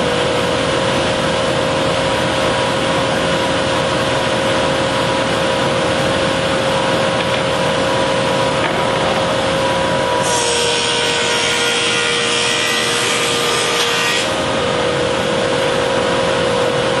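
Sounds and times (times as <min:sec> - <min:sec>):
thickness planer motor whine: 0:00.0 - 0:17.0.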